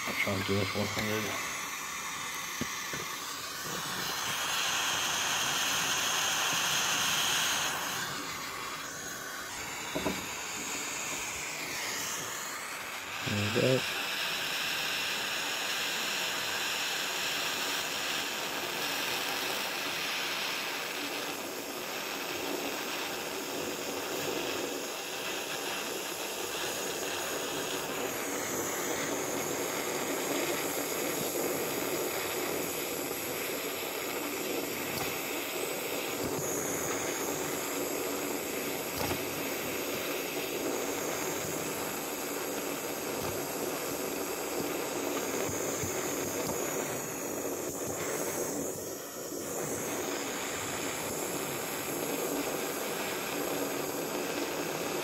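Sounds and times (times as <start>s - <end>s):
blowtorch hissing: 0.0s - 55.0s.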